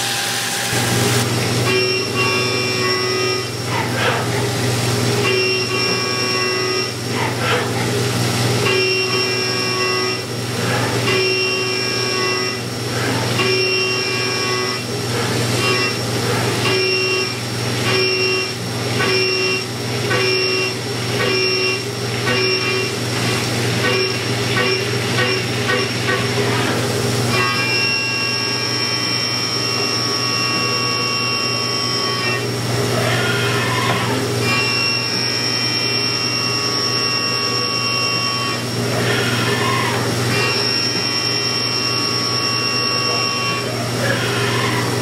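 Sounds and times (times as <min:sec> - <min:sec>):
milling cutter whine: 0:00.0 - 0:45.0.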